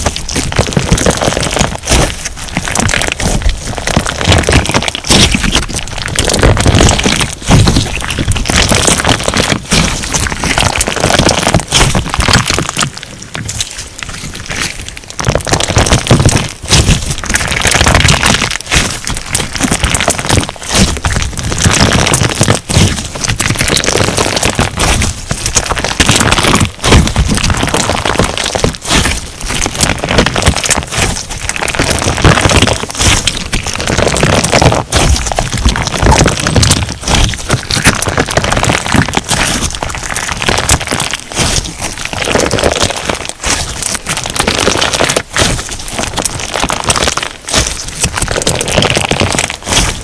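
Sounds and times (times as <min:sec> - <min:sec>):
slime crackling and popping: 0:00.0 - 0:50.0.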